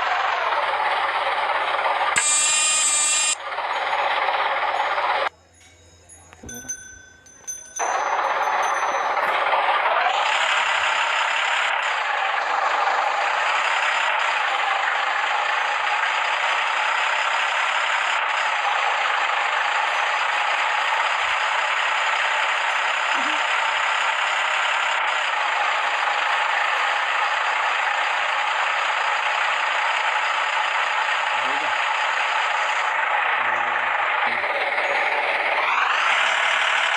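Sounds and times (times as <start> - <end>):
road construction machinery running: 0.0 - 36.9.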